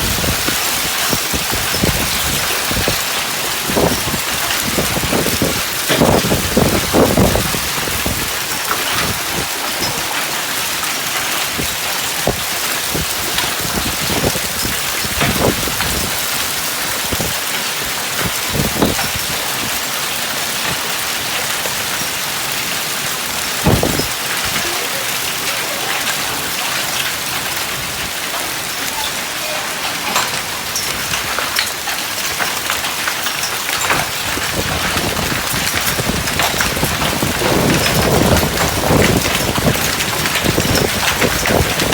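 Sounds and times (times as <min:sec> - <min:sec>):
hailstones striking hard surfaces: 0:00.0 - 0:41.9
heavy rain hiss: 0:00.0 - 0:41.9.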